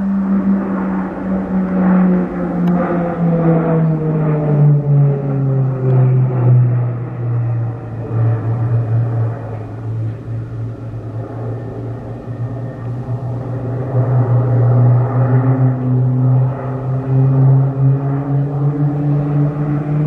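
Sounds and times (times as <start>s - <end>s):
propeller aircraft flying past: 0.0s - 20.0s.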